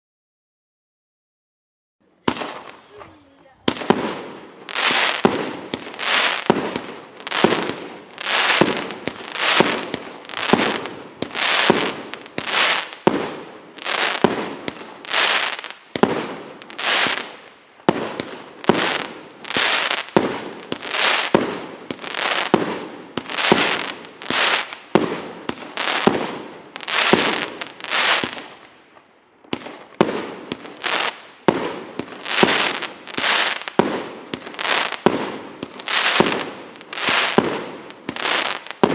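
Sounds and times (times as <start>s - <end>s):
firework shots banging and crackling: 2.1s - 38.9s.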